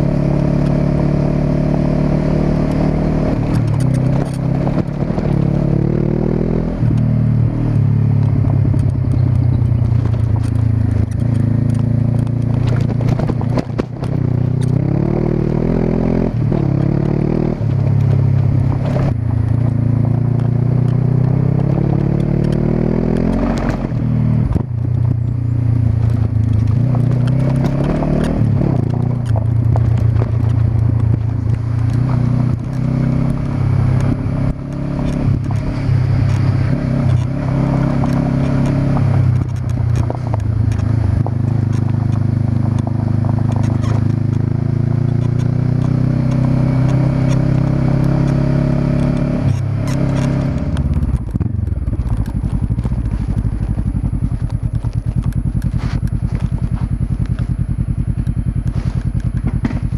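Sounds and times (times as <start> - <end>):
motorcycle engine running: 0.0 - 59.9
clatter and knocks from riding: 2.8 - 5.6, 8.1 - 15.6, 16.4 - 59.9.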